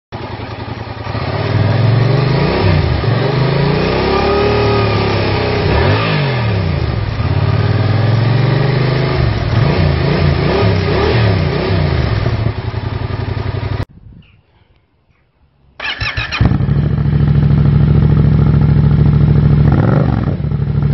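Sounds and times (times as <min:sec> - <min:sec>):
motorcycle engine revving: 0:00.2 - 0:13.9, 0:15.8 - 0:20.9.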